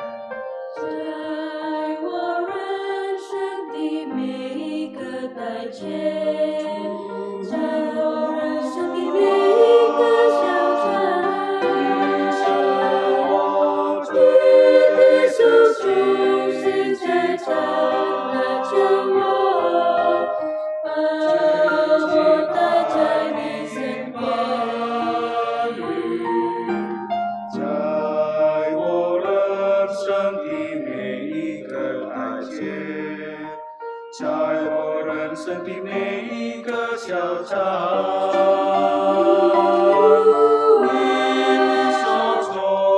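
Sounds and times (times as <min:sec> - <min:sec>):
mixed choir singing a hymn: 0:01.0 - 0:42.9.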